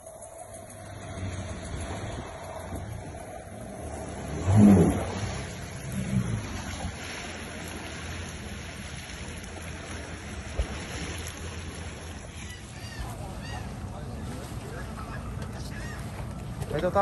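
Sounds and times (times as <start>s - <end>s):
jet ski engines running: 0.0s - 17.0s
wind buffeting microphone: 0.0s - 17.0s.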